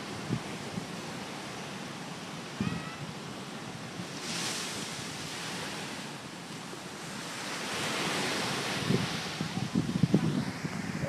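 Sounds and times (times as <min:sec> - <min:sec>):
ocean surf breaking on sand: 0:00.0 - 0:11.0.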